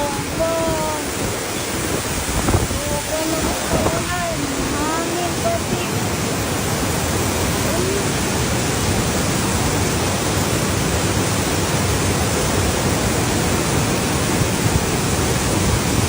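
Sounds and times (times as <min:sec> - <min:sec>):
heavy rain: 0:00.0 - 0:16.0
strong wind: 0:00.0 - 0:16.0.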